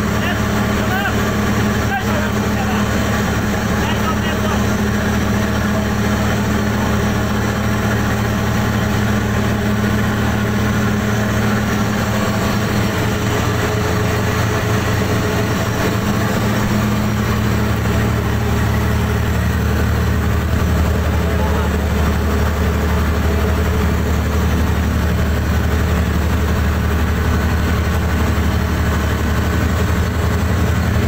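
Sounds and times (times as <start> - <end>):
boat engine humming: 0.0 - 31.0.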